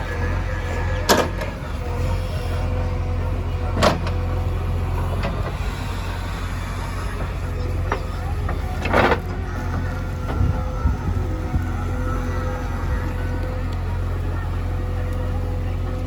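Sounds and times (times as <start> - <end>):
backhoe loader engine running: 0.0 - 16.0.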